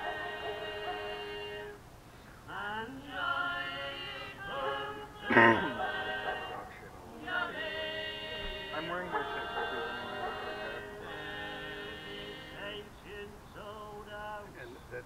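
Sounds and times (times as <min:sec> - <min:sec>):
music with singing voices: 0:00.0 - 0:01.8, 0:02.5 - 0:14.8.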